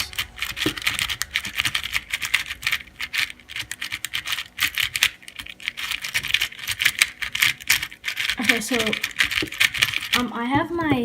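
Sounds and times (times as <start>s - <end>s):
puzzle cube plastic clicks: 0.0s - 11.0s.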